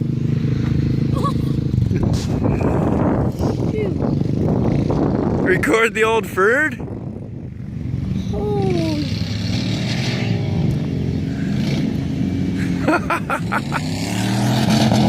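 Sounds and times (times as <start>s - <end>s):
truck and atv engines revving: 0.0s - 15.0s.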